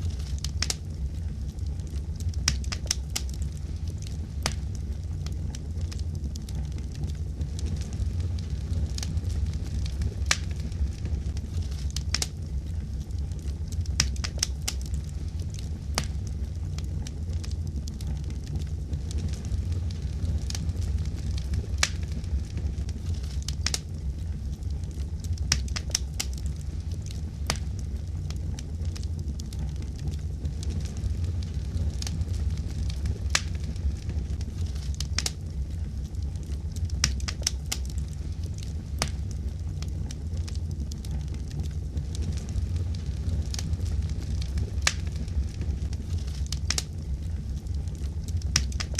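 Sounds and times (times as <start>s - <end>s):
fire crackling: 0.0s - 48.9s.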